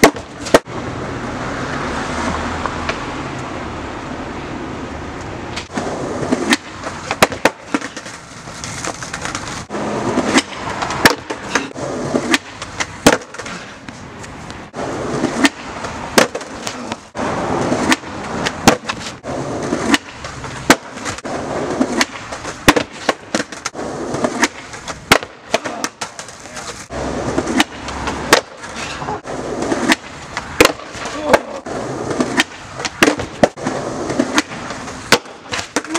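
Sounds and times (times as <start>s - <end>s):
skateboards clacking on ground: 0.0s - 0.8s, 5.1s - 35.9s
skateboard wheels rolling on concrete: 0.0s - 35.9s.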